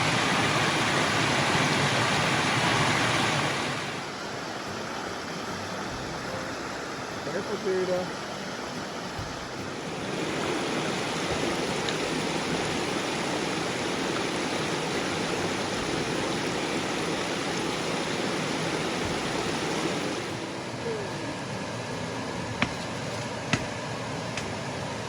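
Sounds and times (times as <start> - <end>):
flowing creek water: 0.0 - 25.0.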